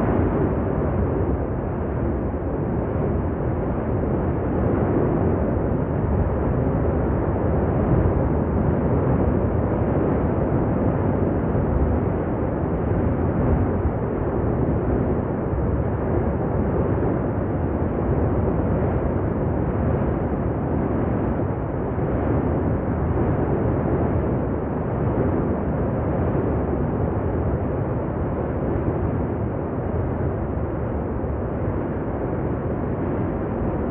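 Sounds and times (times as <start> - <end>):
volcanic eruption deep rumble: 0.0 - 33.9.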